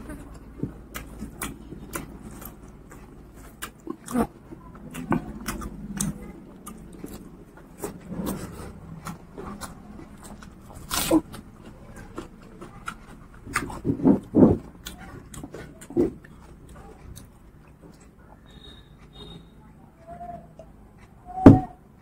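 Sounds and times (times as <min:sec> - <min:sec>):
person chewing and lip-smacking: 0:00.0 - 0:19.4.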